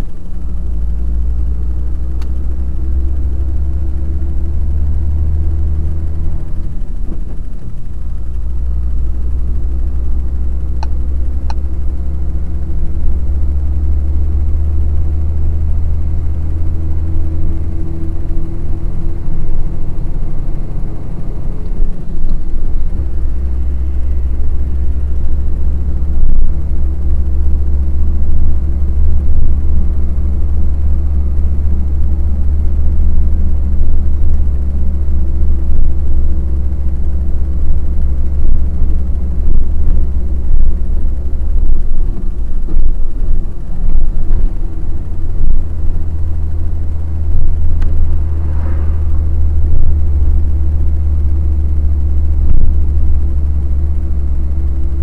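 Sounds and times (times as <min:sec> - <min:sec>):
road noise: 0:00.0 - 0:55.0
truck engine rumble: 0:00.0 - 0:55.0.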